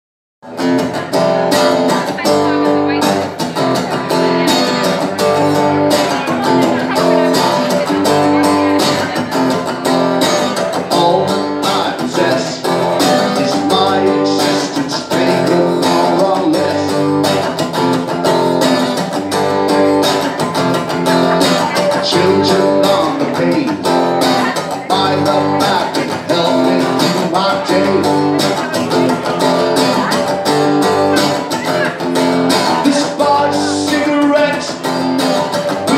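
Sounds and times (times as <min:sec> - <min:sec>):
live indie rock music: 0:00.4 - 0:35.9.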